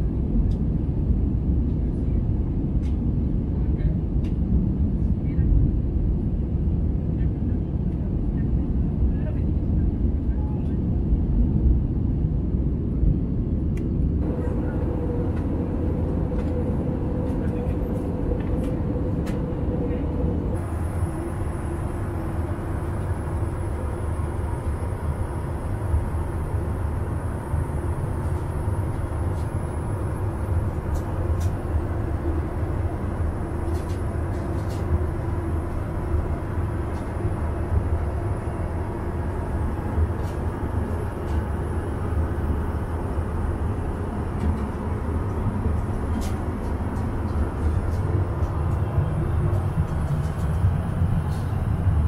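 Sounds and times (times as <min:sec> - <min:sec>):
airplane engines and airflow rumble: 0:00.0 - 0:52.0.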